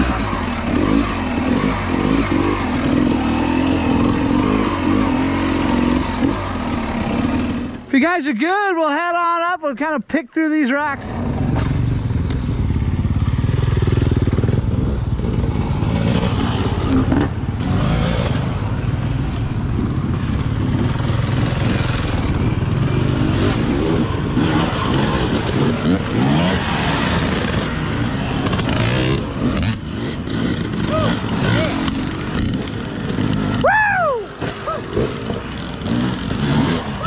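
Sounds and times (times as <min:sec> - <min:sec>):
dirt bike engine revving: 0:00.0 - 0:07.9, 0:10.7 - 0:37.0.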